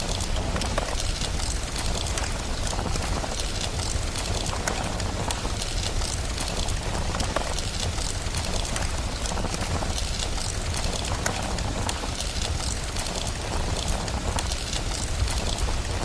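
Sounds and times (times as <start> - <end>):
rain hiss: 0.0 - 16.0
wood fire crackling and popping: 0.0 - 16.0.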